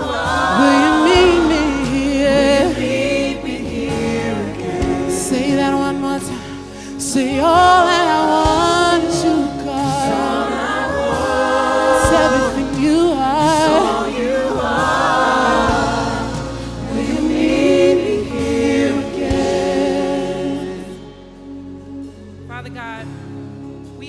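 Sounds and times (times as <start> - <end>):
congregation singing worship chorus: 0.0 - 22.5
live band playing: 0.0 - 24.0.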